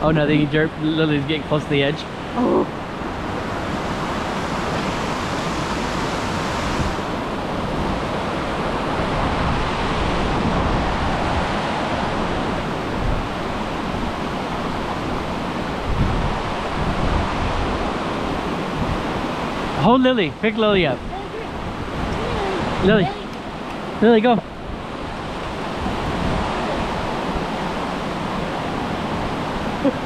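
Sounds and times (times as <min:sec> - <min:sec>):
rushing creek water: 0:00.0 - 0:30.0.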